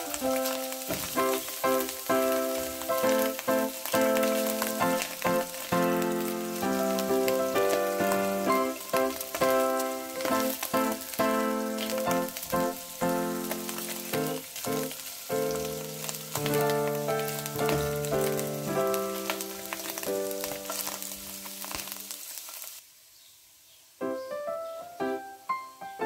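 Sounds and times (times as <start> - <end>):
piano music: 0.0 - 22.2, 24.0 - 26.0
mushrooms sizzling in oil: 0.0 - 25.2.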